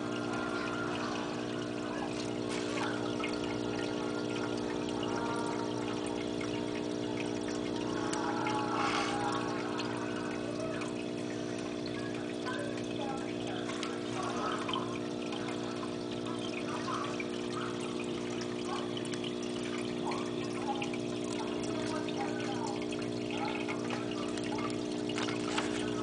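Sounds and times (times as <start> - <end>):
electrical hum: 0.0 - 26.0
water trickling and bubbling: 0.0 - 26.0.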